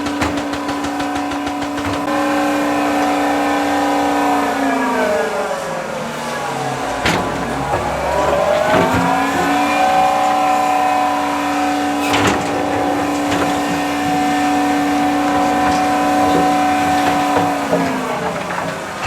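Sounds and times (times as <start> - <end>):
diesel engine revving: 0.0 - 19.0.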